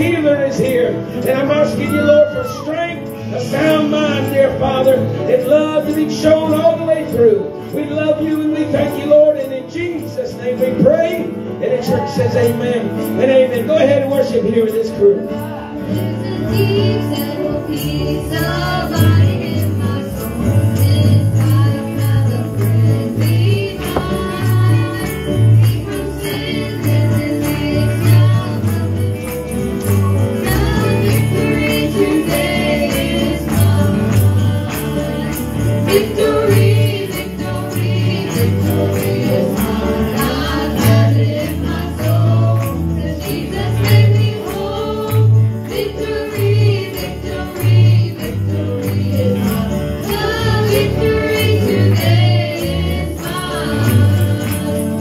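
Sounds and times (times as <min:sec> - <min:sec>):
guitar: 0:00.0 - 0:55.0
people singing: 0:00.0 - 0:55.0
piano: 0:00.0 - 0:55.0
tambourine jingling: 0:00.0 - 0:55.0.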